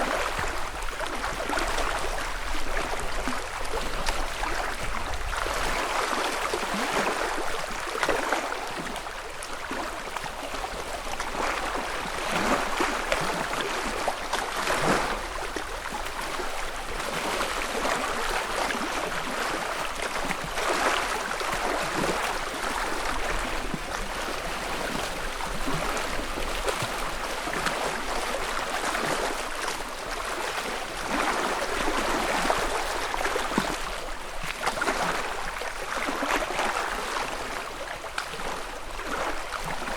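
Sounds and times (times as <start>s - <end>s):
water lapping against shore: 0.0s - 39.9s.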